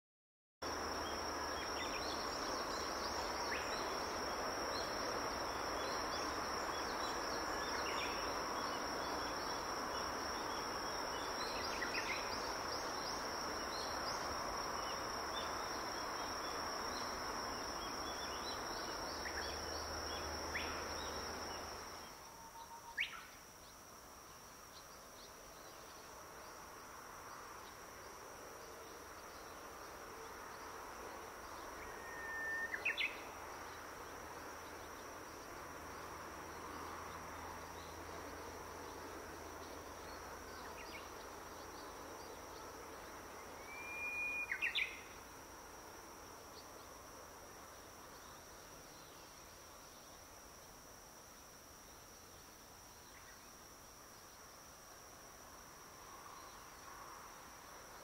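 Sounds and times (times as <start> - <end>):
background hiss: 0.6 - 58.0.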